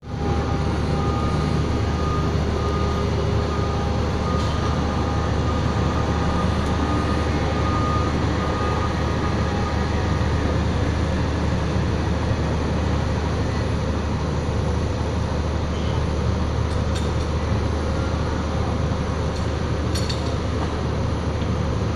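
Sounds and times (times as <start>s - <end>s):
engine droning: 0.0s - 21.9s
faint steady whines: 0.0s - 21.9s.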